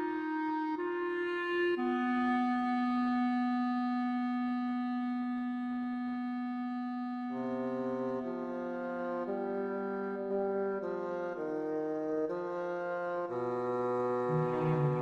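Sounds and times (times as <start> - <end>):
instrumental music held notes: 0.0 - 15.0.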